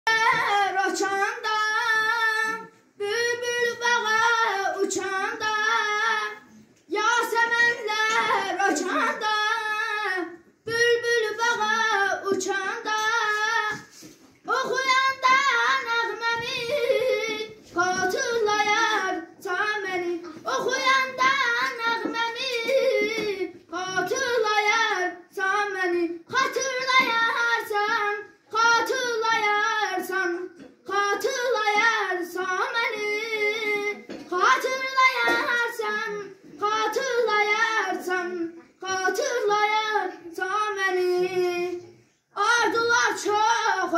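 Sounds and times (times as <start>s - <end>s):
boy singing solo: 0.1s - 43.9s.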